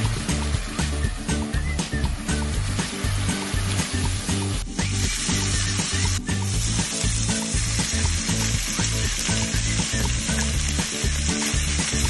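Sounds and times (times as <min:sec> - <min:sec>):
background music with beat: 0:00.0 - 0:12.0
food sizzling in frying pan: 0:00.0 - 0:12.0.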